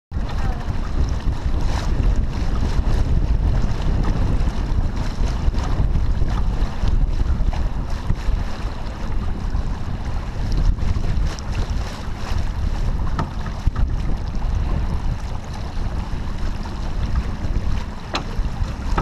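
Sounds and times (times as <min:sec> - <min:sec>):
water rushing along hull: 0:00.1 - 0:19.0
wind buffeting microphone: 0:00.1 - 0:19.0.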